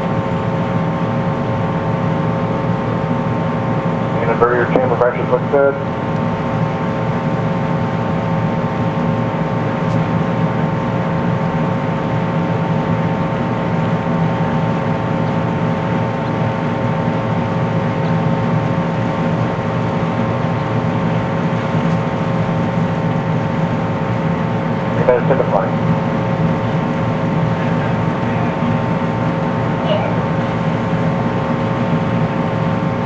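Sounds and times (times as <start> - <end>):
steady mechanical drone: 0.0 - 33.0.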